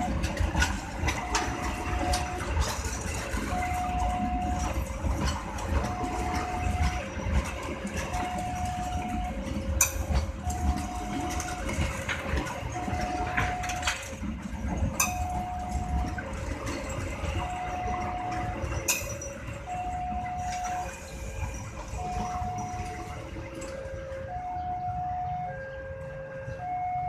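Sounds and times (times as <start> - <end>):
level crossing two-tone alarm: 0.0 - 27.0
low engine rumble: 0.0 - 27.0.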